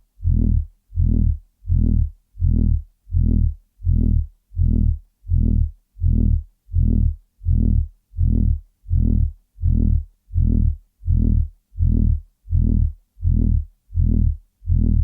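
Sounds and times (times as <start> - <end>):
deep pulsing buzz: 0.2 - 15.0.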